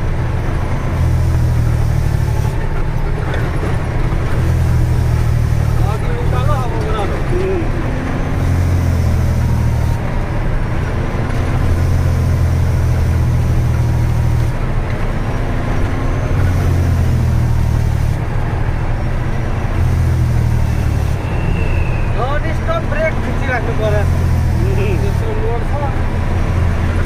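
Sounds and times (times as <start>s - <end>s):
truck diesel engine drone: 0.0s - 27.0s.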